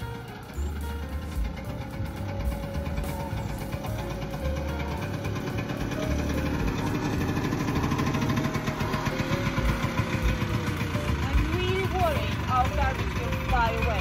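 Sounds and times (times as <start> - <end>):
small two-stroke truck engine: 0.0 - 14.0.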